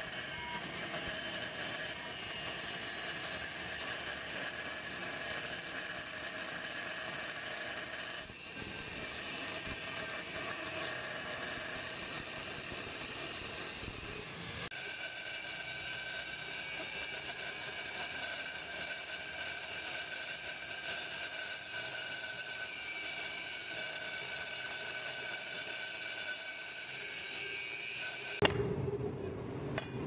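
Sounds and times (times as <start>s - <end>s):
angle grinder cutting steel: 0.0s - 28.4s.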